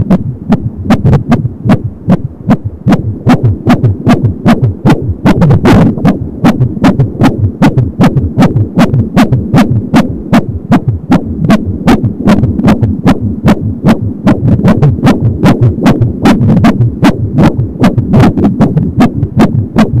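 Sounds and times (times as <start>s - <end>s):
fetal heartbeat whooshing pulses: 0.0s - 20.0s.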